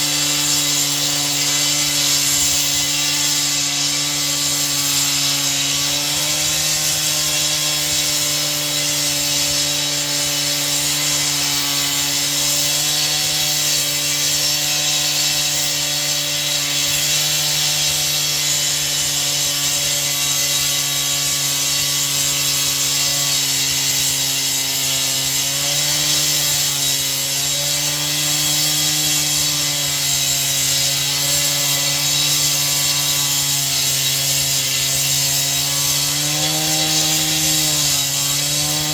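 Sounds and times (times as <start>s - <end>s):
power saw cutting: 0.0s - 38.9s.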